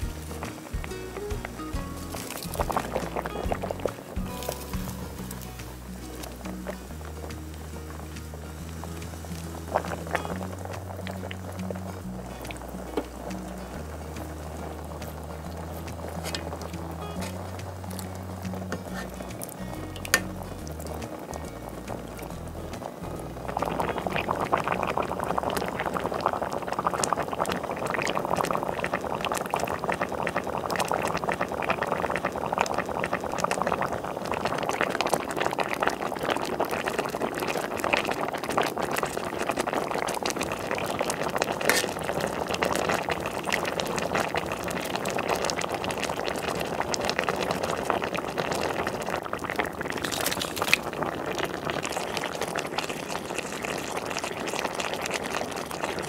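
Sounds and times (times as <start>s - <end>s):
pot of broth boiling: 0.0s - 56.0s.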